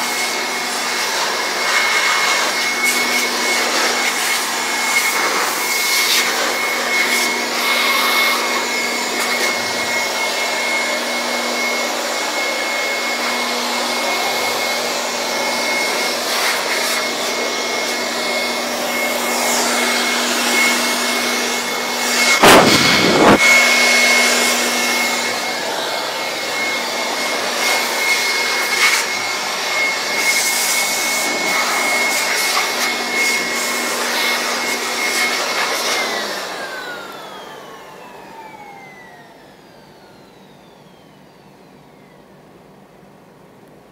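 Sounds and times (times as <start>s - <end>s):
electric dust blower whining: 0.0s - 43.5s.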